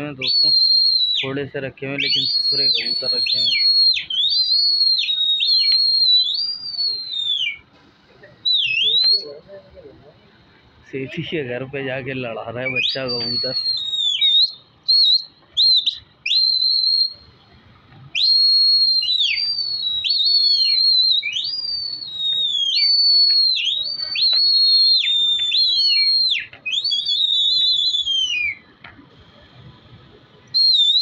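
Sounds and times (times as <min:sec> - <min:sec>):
loud high whistling: 0:00.0 - 0:07.7, 0:08.3 - 0:10.0, 0:12.5 - 0:17.5, 0:18.1 - 0:31.0.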